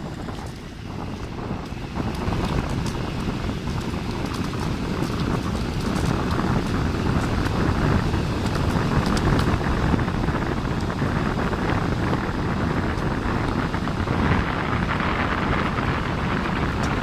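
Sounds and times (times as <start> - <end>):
wheels rolling on asphalt: 0.0 - 17.0
wind rushing over microphone: 0.0 - 17.0.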